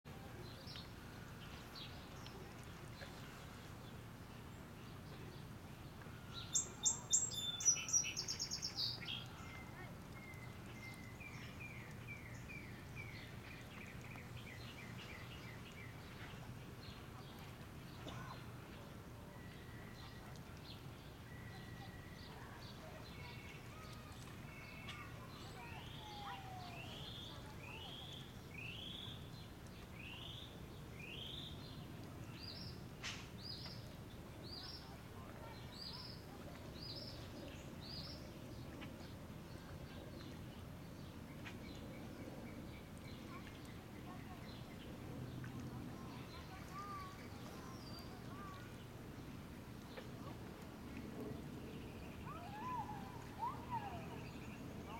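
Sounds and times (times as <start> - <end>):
low steady hum: 0.1 - 54.9
songbirds singing: 0.1 - 54.9.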